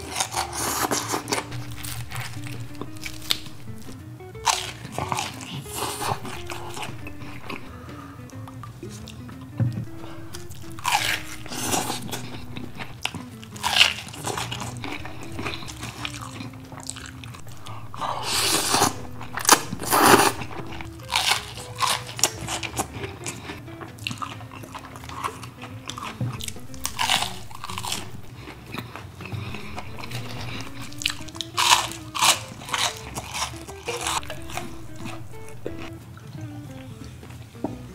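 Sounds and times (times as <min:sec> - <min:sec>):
crunchy bites and chewing: 0:00.0 - 0:07.8, 0:09.8 - 0:35.9.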